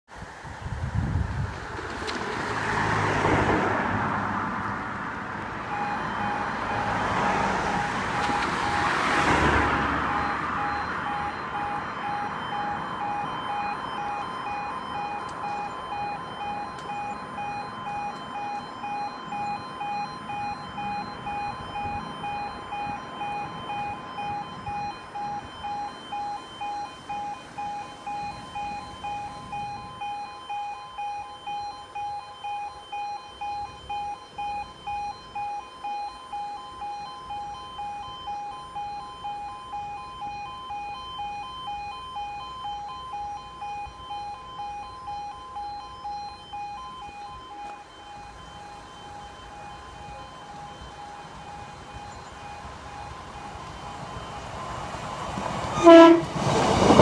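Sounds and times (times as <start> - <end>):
road vehicles passing: 0.1 - 57.0
level crossing warning alarm: 2.0 - 57.0.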